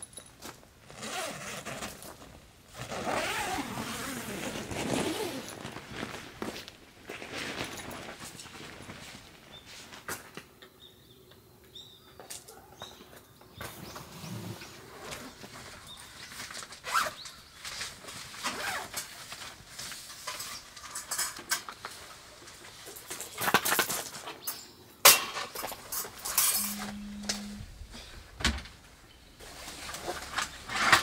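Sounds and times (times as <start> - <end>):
rustling and shuffling gear: 0.0 - 10.5, 12.4 - 24.5, 28.7 - 31.0.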